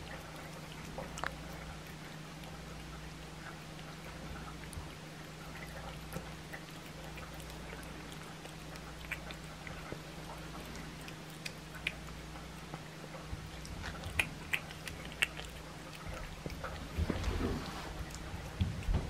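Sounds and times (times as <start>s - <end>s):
cat chewing and licking: 0.0s - 19.0s
steady low hum: 0.0s - 19.0s.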